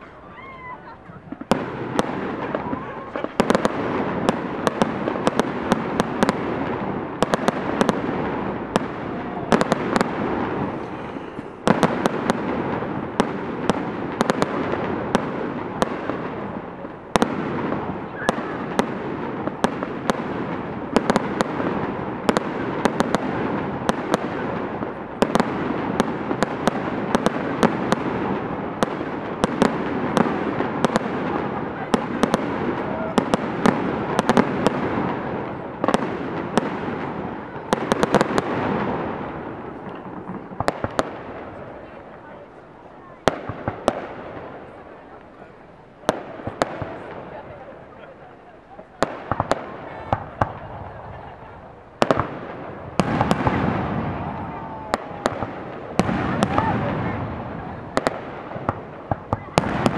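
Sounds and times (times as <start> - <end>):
fireworks crackling and banging: 0.0 - 59.9.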